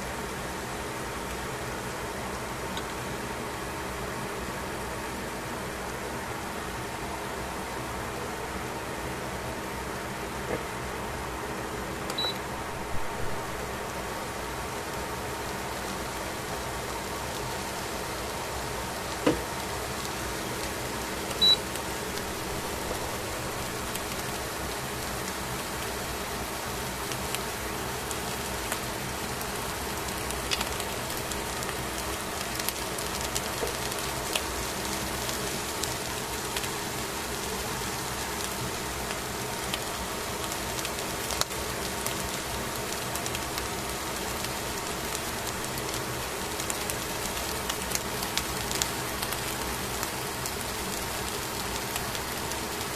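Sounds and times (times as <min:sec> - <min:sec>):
fish sizzling on grill: 0:00.0 - 0:52.9.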